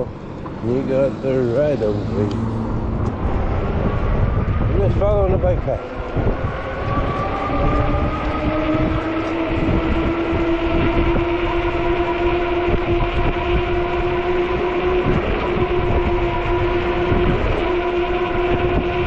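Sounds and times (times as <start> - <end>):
electric bike motor whine: 0.0 - 19.0
wind buffeting microphone: 0.0 - 19.0.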